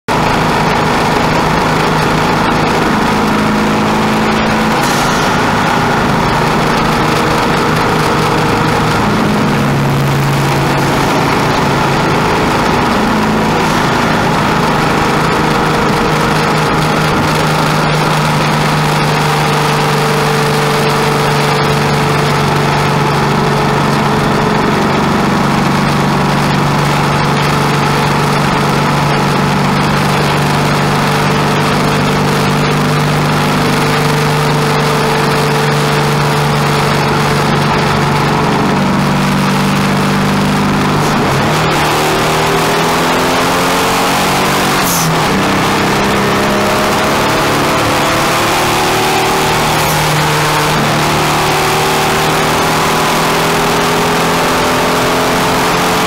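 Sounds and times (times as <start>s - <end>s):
car engine from inside cabin: 0.1s - 56.0s.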